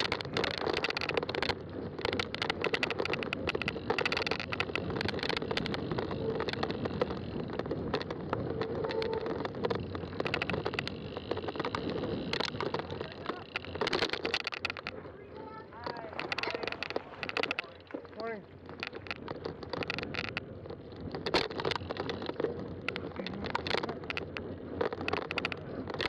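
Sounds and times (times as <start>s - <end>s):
bike tyres rolling on trail: 0.0s - 26.0s
small clicks and rattles: 0.0s - 26.0s.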